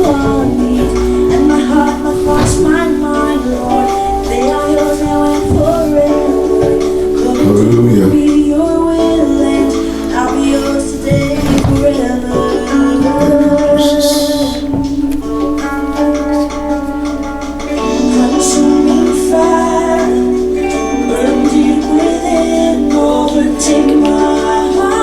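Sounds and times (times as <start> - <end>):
worship music with singing: 0.0 - 25.0.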